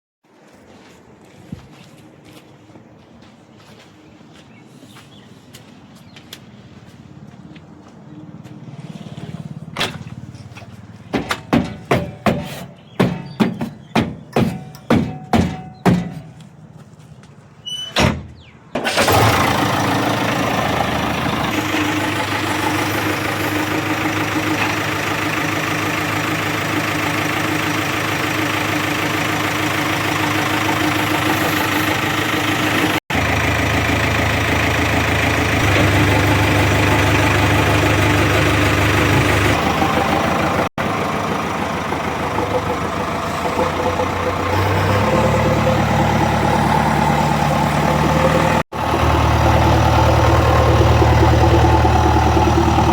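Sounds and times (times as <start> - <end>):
diesel engine running: 7.2 - 16.4, 18.7 - 52.9.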